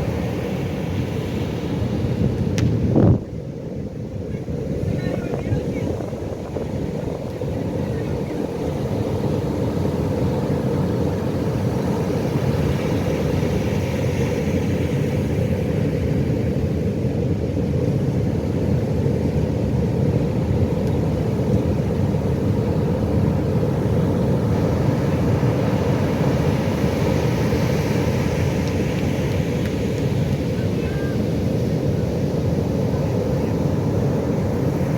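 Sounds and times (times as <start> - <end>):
ocean surf roaring: 0.0 - 34.9.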